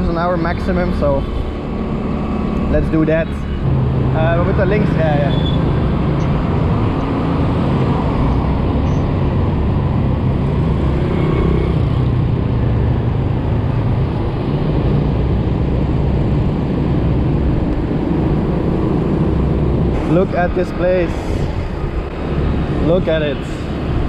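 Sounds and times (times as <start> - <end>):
scooter engine drone: 0.1 - 24.0
wind buffeting on microphone: 0.6 - 24.0.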